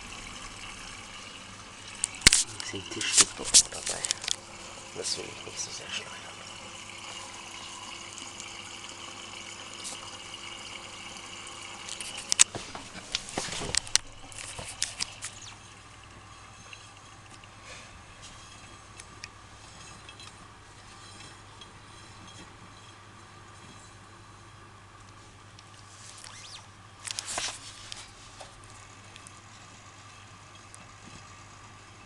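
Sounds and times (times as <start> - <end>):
washing machine filling with water: 0.0 - 26.0.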